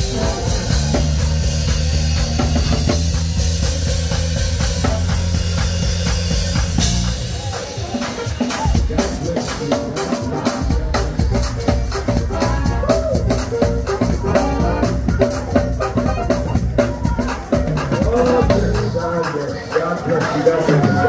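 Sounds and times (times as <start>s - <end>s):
drums: 0.0s - 21.0s
live band: 0.0s - 21.0s
shaker percussion: 0.0s - 21.0s.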